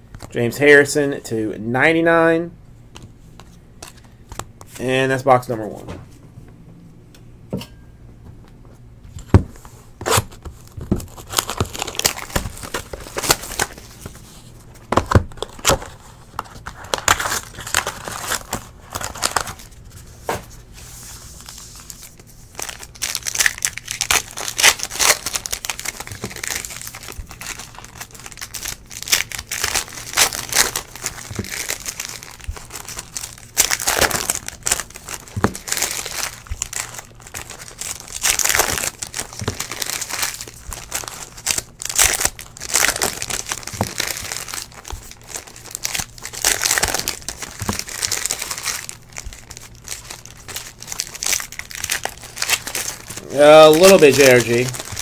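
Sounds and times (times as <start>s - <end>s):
plastic wrapping crinkling: 10.1s - 55.0s.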